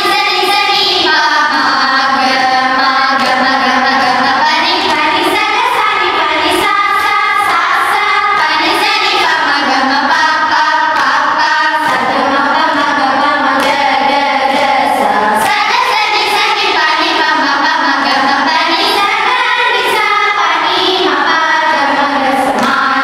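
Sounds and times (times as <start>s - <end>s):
girls singing in unison: 0.0s - 23.0s.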